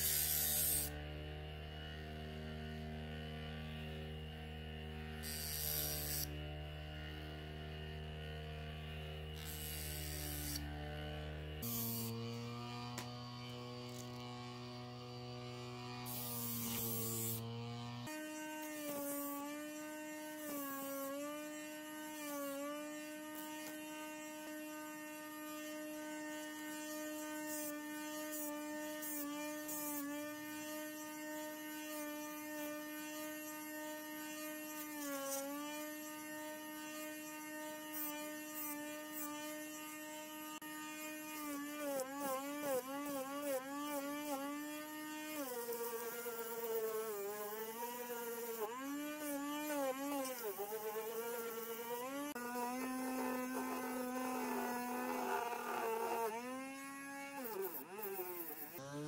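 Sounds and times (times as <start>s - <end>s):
electric disc sander whining: 0.0s - 32.9s, 40.0s - 59.0s.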